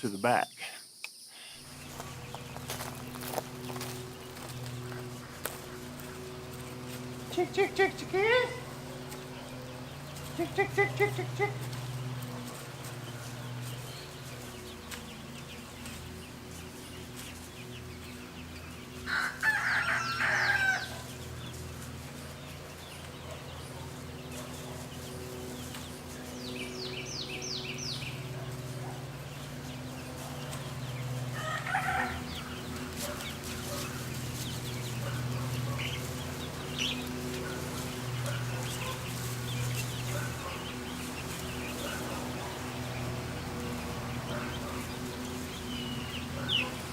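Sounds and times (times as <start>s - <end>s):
young chickens clucking: 1.6s - 46.9s.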